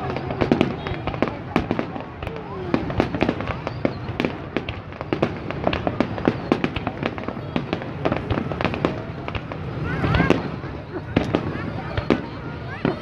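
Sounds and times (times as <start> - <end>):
fireworks bangs and crackling pops: 0.0 - 13.0.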